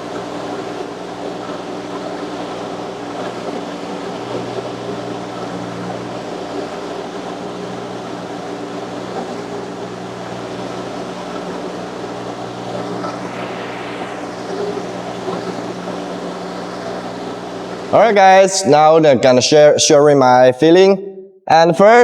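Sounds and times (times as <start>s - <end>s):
loader engine humming: 0.0s - 18.6s.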